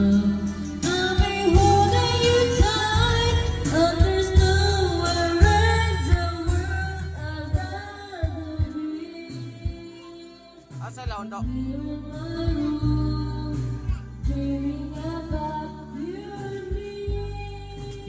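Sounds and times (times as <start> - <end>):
pop song with singer and guitar: 0.0 - 18.0.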